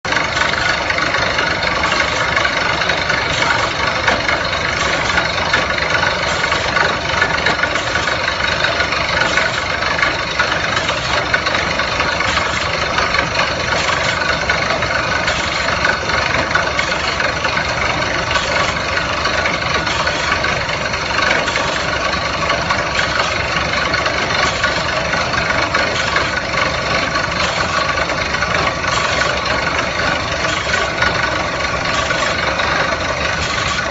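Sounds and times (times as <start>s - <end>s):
well drilling rig running: 0.0s - 33.9s.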